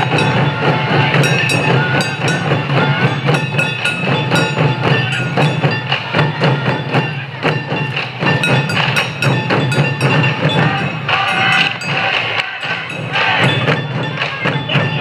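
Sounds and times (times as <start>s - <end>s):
taiko drums beating: 0.0s - 15.0s.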